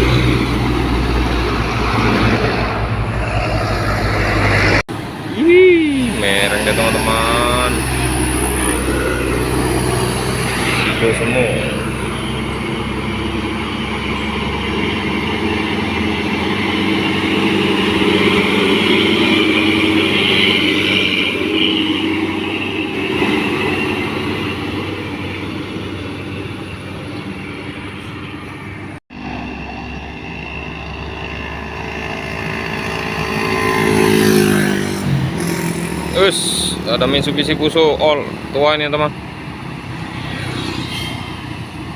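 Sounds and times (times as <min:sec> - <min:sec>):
truck diesel engine labouring: 0:00.0 - 0:41.9.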